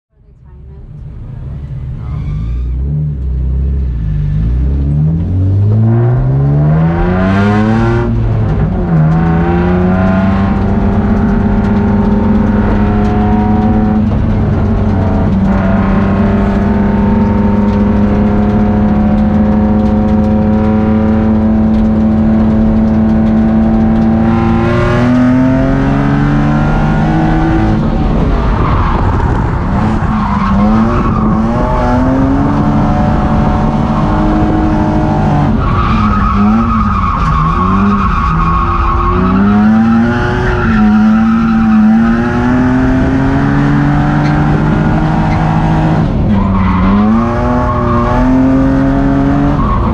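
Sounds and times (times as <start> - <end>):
car engine revving: 0.2 - 49.9.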